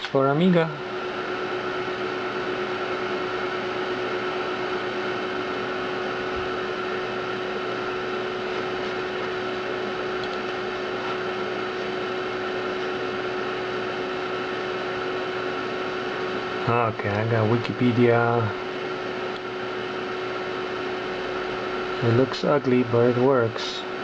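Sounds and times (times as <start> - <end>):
computer hum with constant tone: 0.0 - 24.0.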